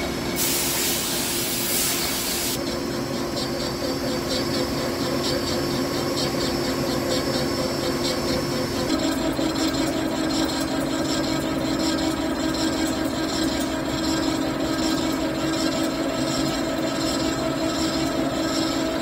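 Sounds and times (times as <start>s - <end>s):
cnc machine humming: 2.2s - 19.0s.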